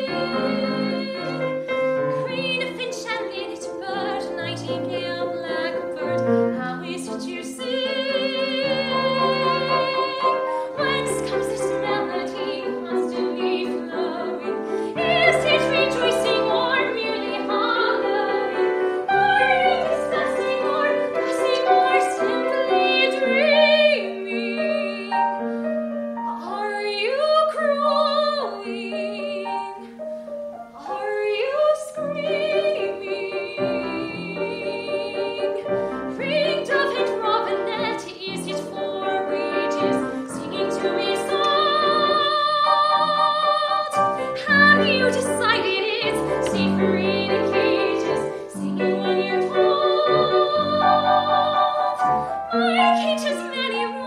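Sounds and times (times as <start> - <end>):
grand piano: 0.0 - 54.0
soprano singing: 0.0 - 54.0.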